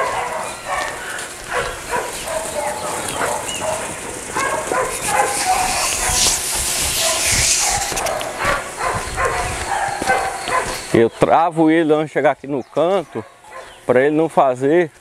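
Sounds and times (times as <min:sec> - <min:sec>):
dog barking and yipping: 0:00.0 - 0:11.0, 0:12.7 - 0:13.8
background hiss: 0:00.9 - 0:15.0.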